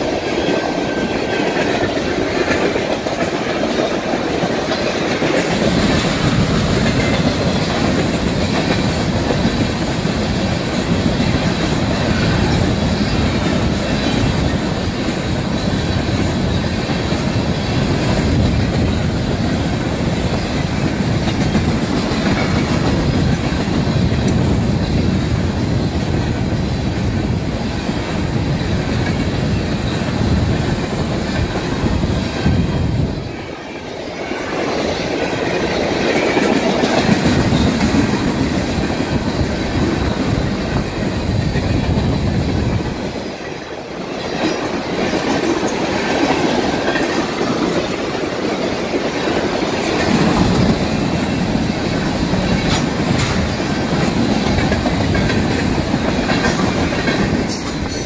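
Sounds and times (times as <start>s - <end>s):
wheel clatter over rail joints: 0.0s - 27.7s, 34.2s - 58.0s
freight train rumbling past: 0.0s - 58.0s.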